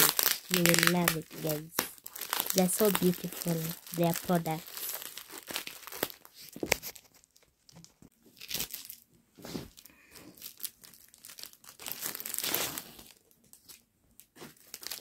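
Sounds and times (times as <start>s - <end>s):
packaging tearing and crinkling: 0.0s - 9.0s, 9.7s - 15.0s.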